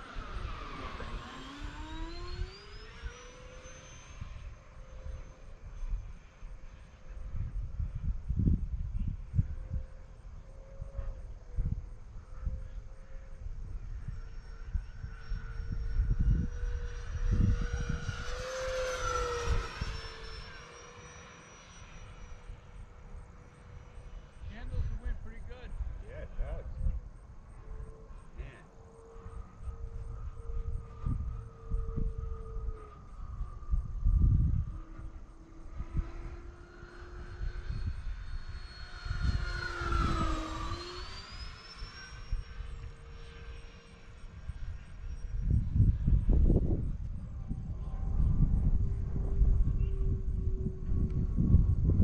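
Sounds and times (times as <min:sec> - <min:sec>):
wind on microphone: 0:00.0 - 0:21.2, 0:22.0 - 0:52.0
rc jet fans whining: 0:00.0 - 0:52.0.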